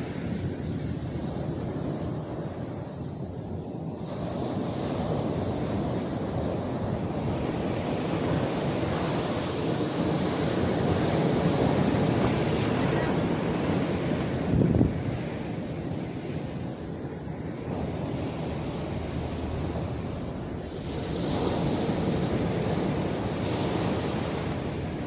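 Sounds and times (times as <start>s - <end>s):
surf washing on shore: 0.0s - 25.0s
wind buffeting microphone: 0.0s - 25.0s.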